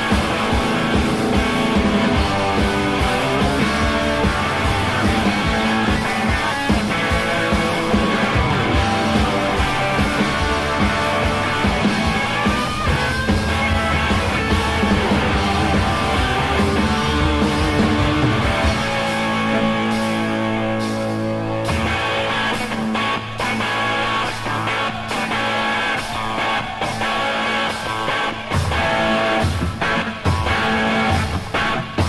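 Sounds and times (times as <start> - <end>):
held guitar chords ringing: 0.0 - 32.0
rock band playing: 0.0 - 32.0
steady drum beat: 0.0 - 32.0.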